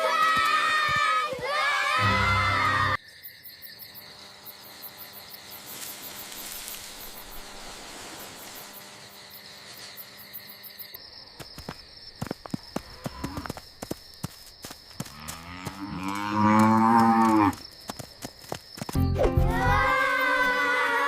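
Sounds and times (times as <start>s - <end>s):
crickets chirping: 2.0s - 19.2s.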